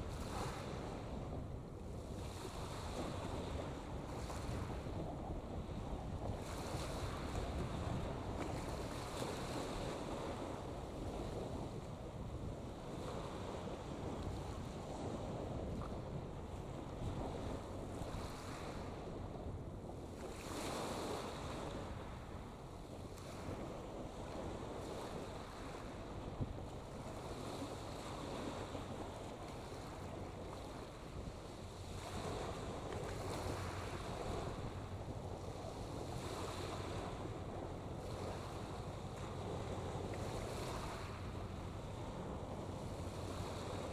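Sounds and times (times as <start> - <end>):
wind on microphone: 0.0 - 43.9.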